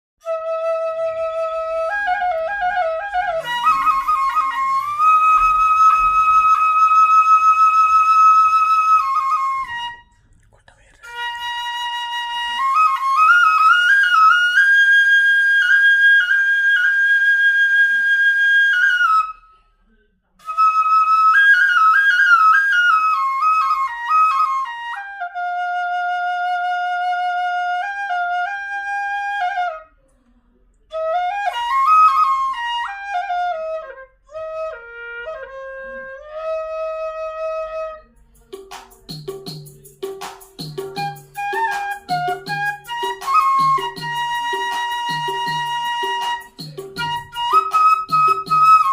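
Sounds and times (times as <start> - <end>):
solo flute melody: 0.2 - 10.2, 11.0 - 19.5, 20.4 - 30.0, 30.9 - 38.2, 40.6 - 48.9.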